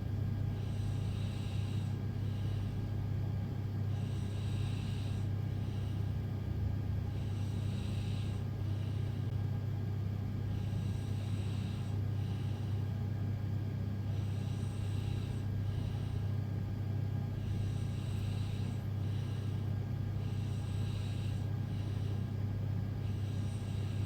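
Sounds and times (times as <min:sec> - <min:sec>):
loud steady low hum: 0:00.0 - 0:24.0
woman breathing noisily: 0:00.5 - 0:03.2, 0:03.8 - 0:09.4, 0:10.4 - 0:24.0.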